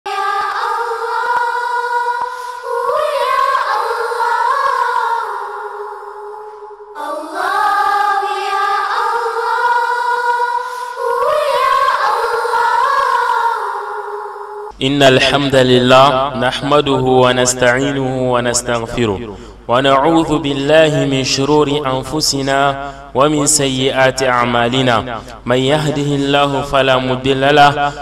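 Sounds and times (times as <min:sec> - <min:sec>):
sung chant with sliding pitch: 0:00.1 - 0:25.0.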